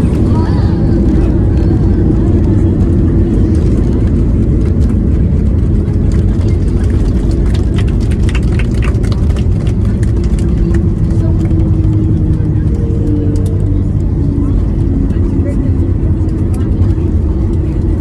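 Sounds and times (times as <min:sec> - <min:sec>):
jet engines and airflow rumble: 0:00.0 - 0:18.0
low hum: 0:00.0 - 0:18.0.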